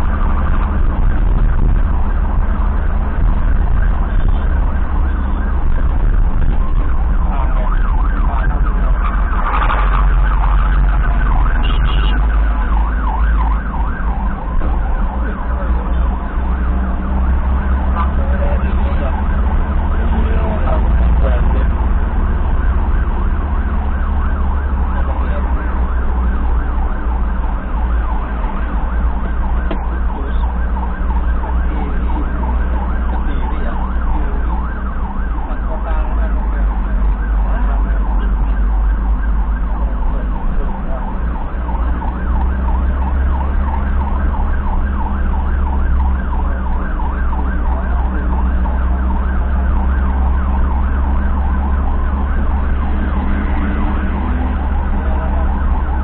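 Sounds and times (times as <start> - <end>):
engine and road rumble: 0.0 - 56.0
siren yelping: 0.0 - 56.0.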